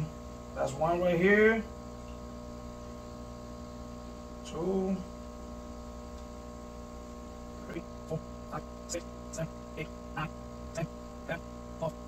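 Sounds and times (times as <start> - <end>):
aquarium equipment electrical hum: 0.0 - 12.0.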